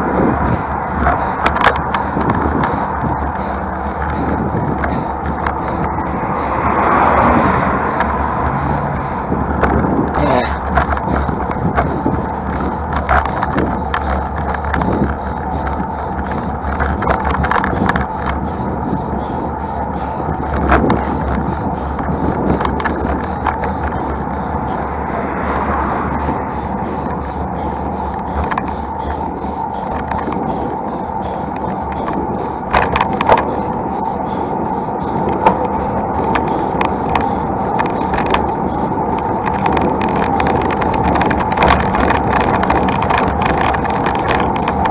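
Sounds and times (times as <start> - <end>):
bike riding rumble and hiss: 0.0 - 44.9
small clicks and rattles: 0.0 - 44.9.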